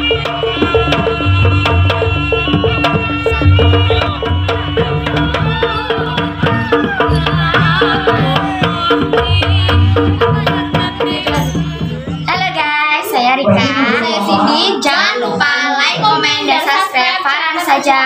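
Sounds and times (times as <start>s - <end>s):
ringing percussion tones: 0.0s - 15.1s
hand drums driving rhythm: 0.0s - 17.8s.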